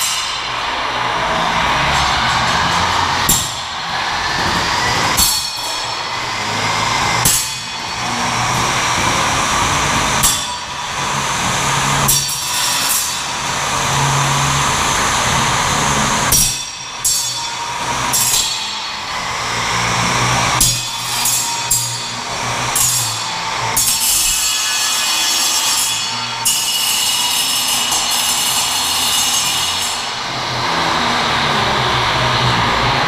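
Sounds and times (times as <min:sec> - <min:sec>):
sharp metal impacts: 0:00.0 - 0:31.5
spinning sawblade scraping metal: 0:00.0 - 0:32.8.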